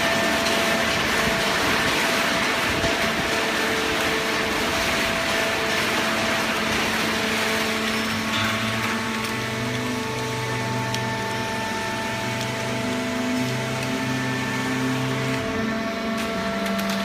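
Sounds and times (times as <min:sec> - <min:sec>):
hydraulic baler running: 0:00.0 - 0:17.0.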